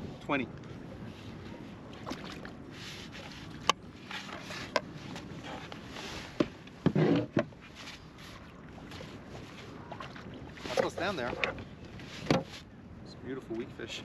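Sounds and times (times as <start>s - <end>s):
wind and water hiss: 0.0s - 14.0s.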